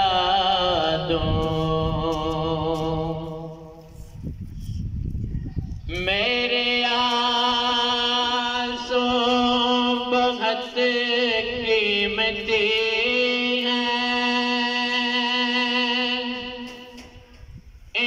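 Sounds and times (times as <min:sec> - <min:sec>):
man singing through loudspeaker: 0:00.0 - 0:04.0, 0:05.9 - 0:17.2.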